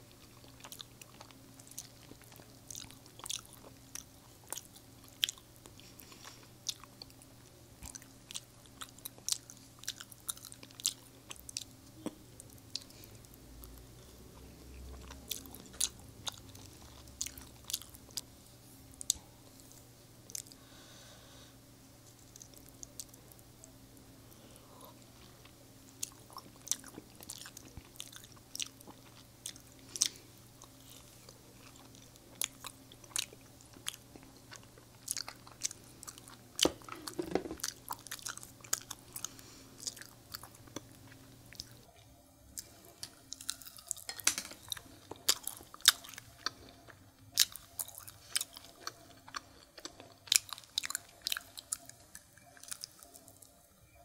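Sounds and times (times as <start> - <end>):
person chewing: 0.1 - 18.3, 19.0 - 20.6, 22.1 - 23.7, 24.3 - 53.6.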